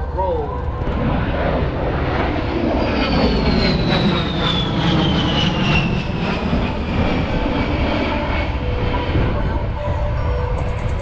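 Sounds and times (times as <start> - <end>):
jet passing low: 0.0 - 11.0.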